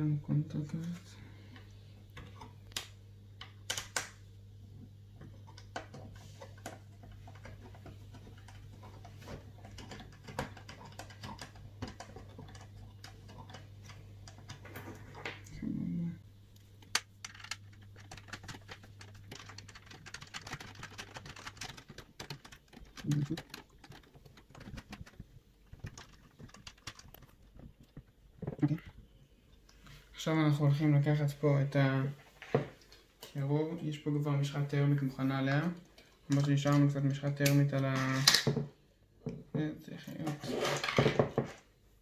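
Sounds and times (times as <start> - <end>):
steady low hum: 0.0 - 37.7.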